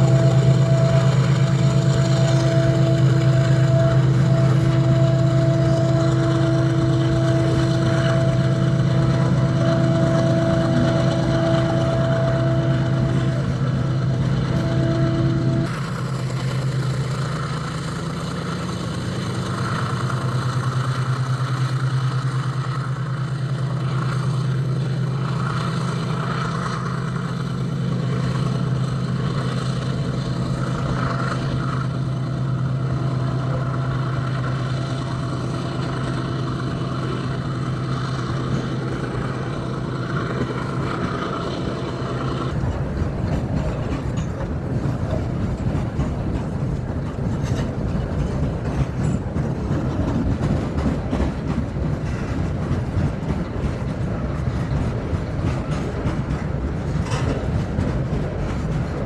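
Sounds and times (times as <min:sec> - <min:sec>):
diesel locomotive engine under load: 0:00.0 - 0:59.0
freight wagons rumbling past: 0:00.0 - 0:59.0.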